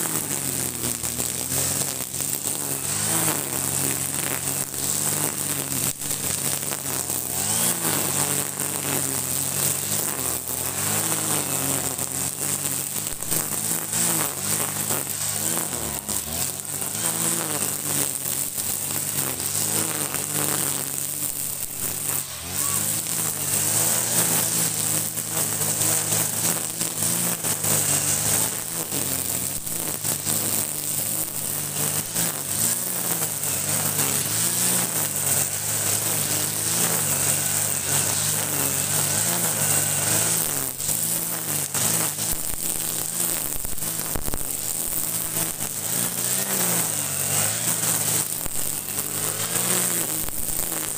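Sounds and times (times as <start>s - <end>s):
brush cutter engine cutting grass: 0.0s - 50.9s.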